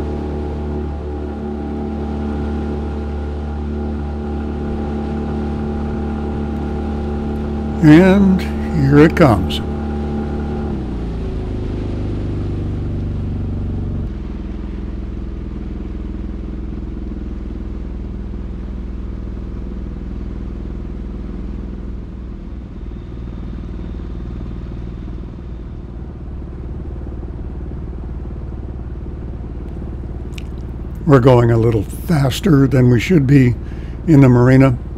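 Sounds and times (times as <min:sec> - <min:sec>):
outboard motor running rough: 0:00.0 - 0:34.9.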